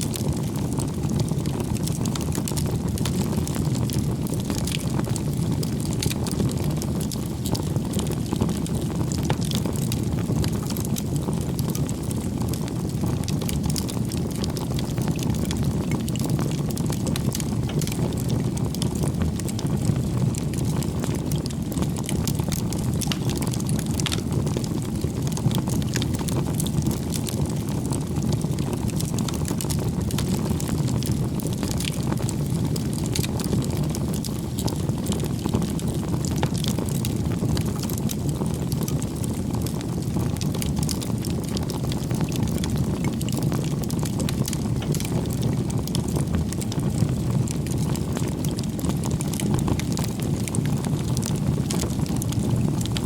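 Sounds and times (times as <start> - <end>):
wood crackling and popping: 0.0 - 53.0
flames rushing: 0.1 - 53.0.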